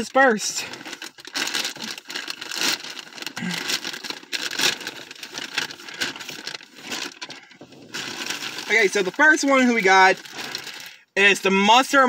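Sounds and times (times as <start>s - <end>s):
bag rustling and scraping: 0.7s - 10.9s.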